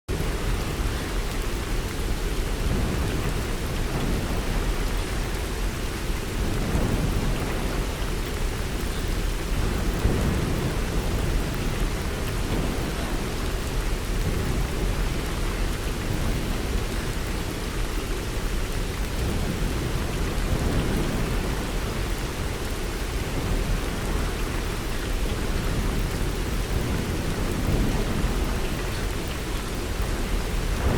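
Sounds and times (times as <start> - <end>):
rain falling through forest: 0.1 - 30.9.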